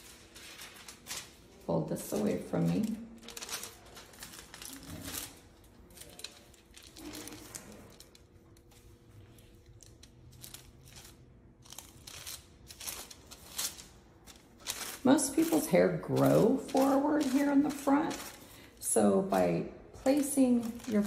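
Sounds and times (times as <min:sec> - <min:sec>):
brush working on foil: 0:00.0 - 0:21.0
foil crinkling: 0:00.0 - 0:21.0.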